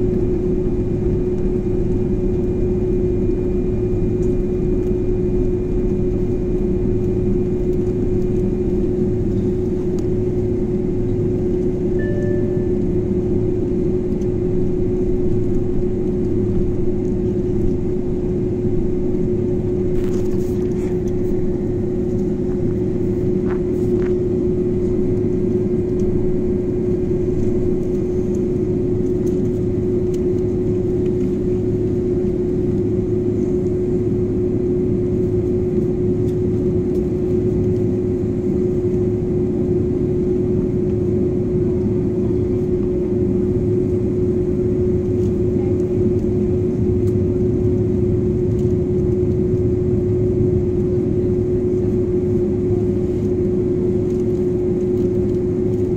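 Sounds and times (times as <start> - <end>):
jet engines humming: 0.0 - 55.9.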